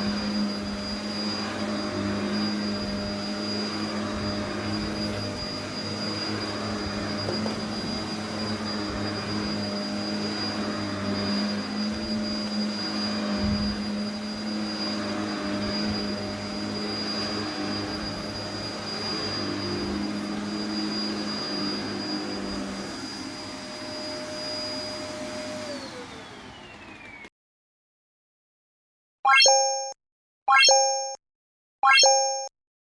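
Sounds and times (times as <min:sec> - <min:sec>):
vacuum cleaner motor whine: 0:00.0 - 0:27.3.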